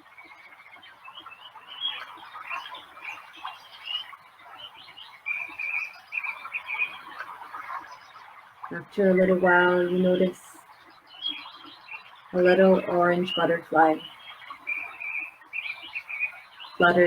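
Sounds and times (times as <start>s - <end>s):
bird repeated steady notes: 0.0s - 17.0s
birds chirping and singing: 0.9s - 17.0s.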